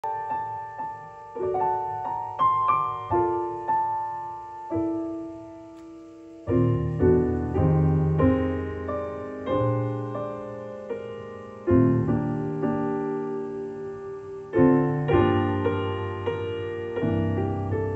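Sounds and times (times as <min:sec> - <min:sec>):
solo piano music: 0:00.0 - 0:17.9.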